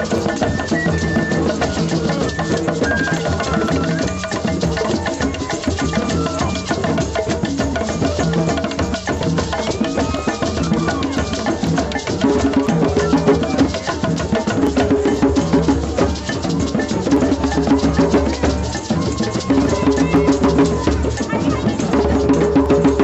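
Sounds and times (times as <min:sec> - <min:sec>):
hand drums playing: 0:00.0 - 0:23.0.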